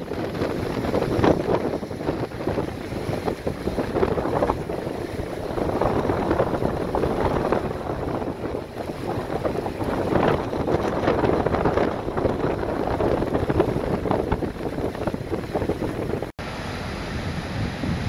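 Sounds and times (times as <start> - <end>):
wind buffeting microphone: 0.0 - 16.3, 16.9 - 18.0
river water rushing: 0.0 - 18.0.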